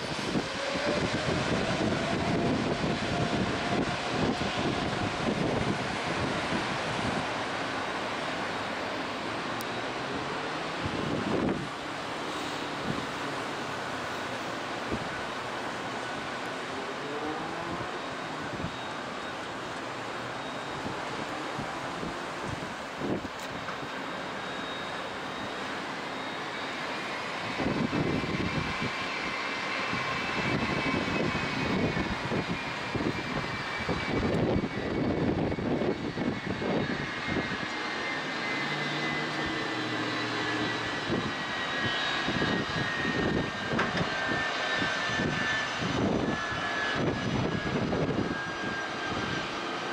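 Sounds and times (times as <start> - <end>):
crackling jet rumble: 0.0 - 49.9
jet engine fan whine: 0.0 - 49.9.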